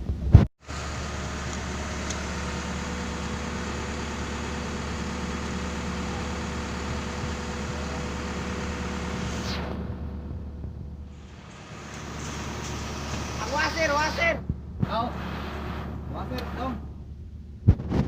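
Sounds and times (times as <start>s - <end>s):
backhoe diesel engine running: 0.6s - 17.7s
falling engine whine: 0.6s - 18.0s.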